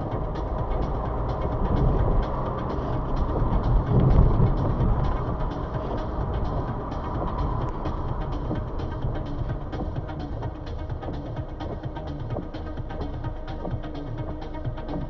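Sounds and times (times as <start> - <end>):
road and engine rumble: 0.0 - 15.0
raindrops ticking on car: 0.1 - 12.8.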